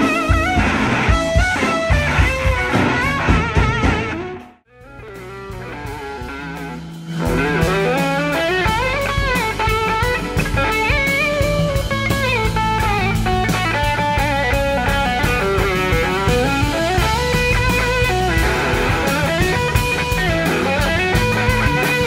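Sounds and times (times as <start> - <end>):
electric slide guitar soloing: 0.0 - 22.0
live band with drum kit: 0.0 - 22.0.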